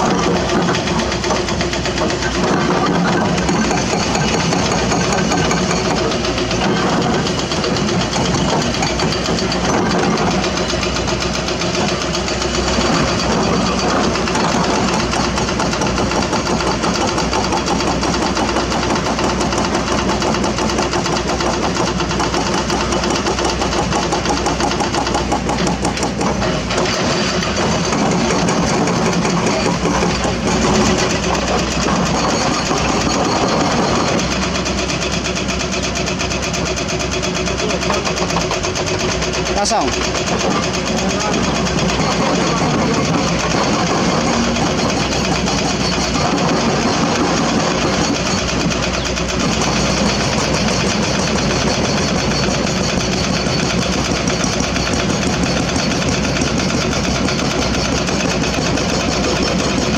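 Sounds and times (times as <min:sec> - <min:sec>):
heavy diesel engine throbbing: 0:00.0 - 0:59.9.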